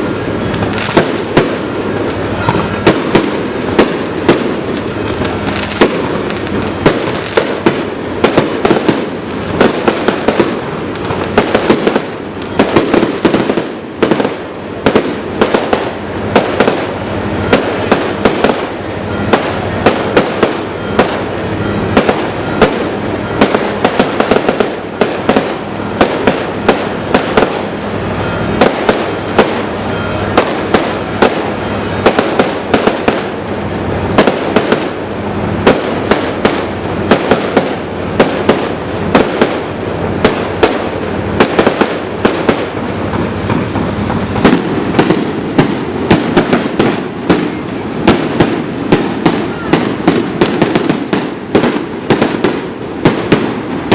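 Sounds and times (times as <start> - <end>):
crackling rumble of fireworks: 0.0 - 53.9
firework shells bursting: 0.0 - 53.9.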